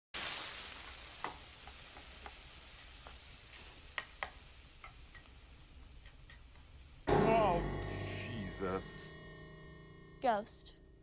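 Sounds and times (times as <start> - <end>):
food sizzling in a frying pan: 0.1 - 9.0.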